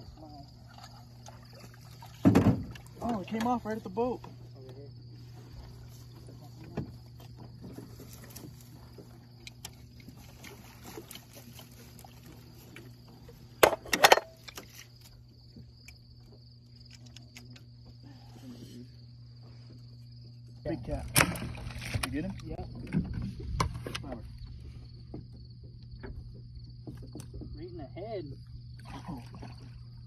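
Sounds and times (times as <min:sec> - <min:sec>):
insects chirping: 0:00.0 - 0:30.0
low machine hum: 0:00.0 - 0:30.0.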